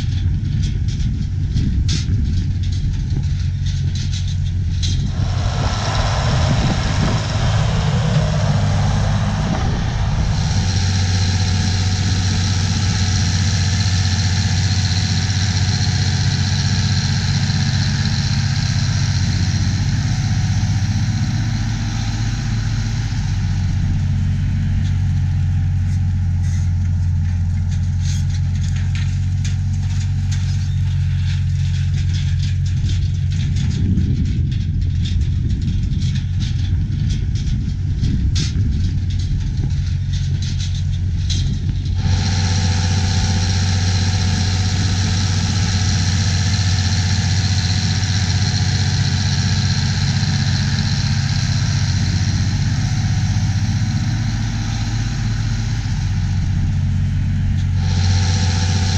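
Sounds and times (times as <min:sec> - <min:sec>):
tractor diesel engine under load: 0:00.0 - 0:58.9.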